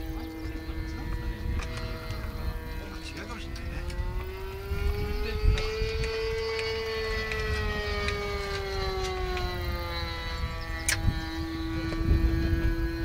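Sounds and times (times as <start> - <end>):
model aircraft droning: 0.0 - 13.0.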